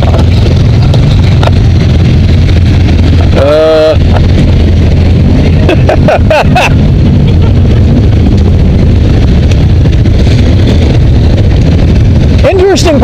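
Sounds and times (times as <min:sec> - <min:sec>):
engines rumbling at low speed: 0:00.0 - 0:13.0.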